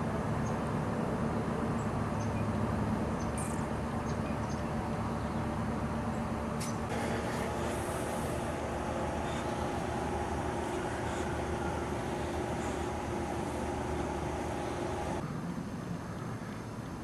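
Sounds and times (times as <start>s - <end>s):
low hum: 0.0s - 15.2s
outdoor background rumble: 0.0s - 17.0s.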